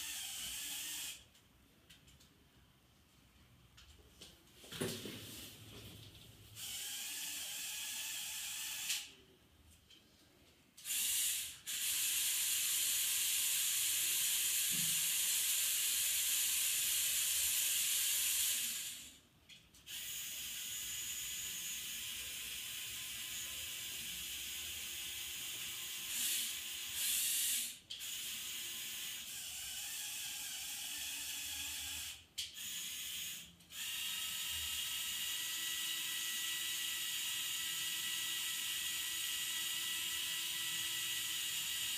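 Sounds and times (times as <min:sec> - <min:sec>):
electric motors and gears whirring: 0:00.0 - 0:01.3, 0:06.6 - 0:09.2, 0:10.8 - 0:19.2, 0:19.8 - 0:41.9.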